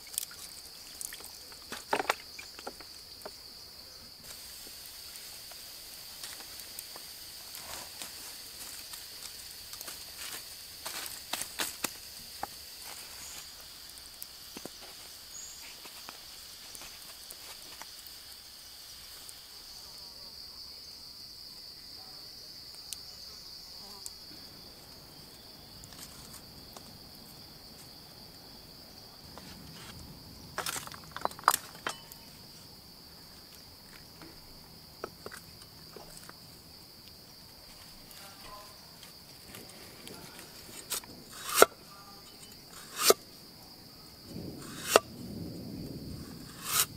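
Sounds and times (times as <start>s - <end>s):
insect trilling: 0.0s - 20.9s, 29.9s - 46.9s.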